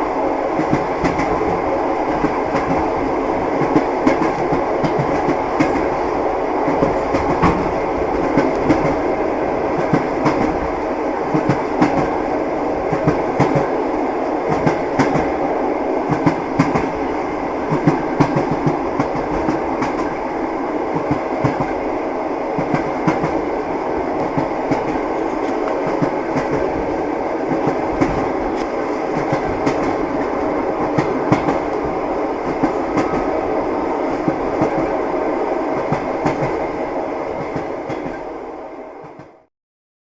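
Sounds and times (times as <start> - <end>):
train rumble inside carriage: 0.0 - 39.5.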